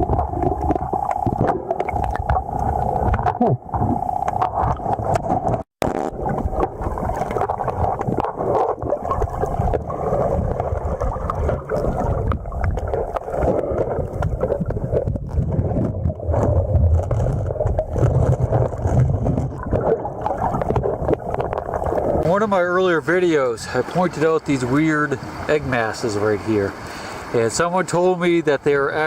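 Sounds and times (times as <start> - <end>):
muffled underwater river rushing: 0.0 - 29.0.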